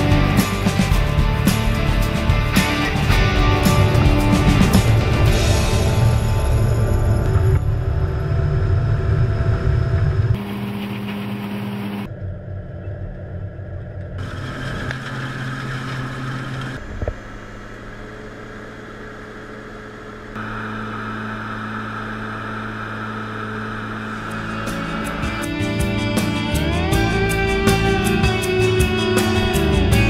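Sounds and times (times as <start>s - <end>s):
harvester engine hum: 0.0s - 30.0s.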